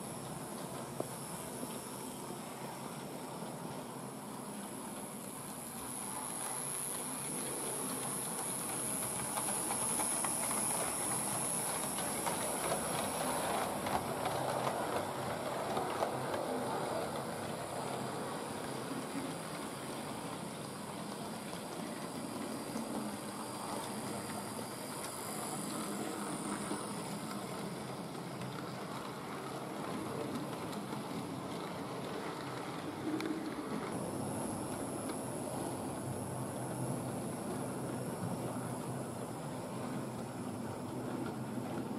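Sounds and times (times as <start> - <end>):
model train wheels rattling on rails: 0.0 - 41.9.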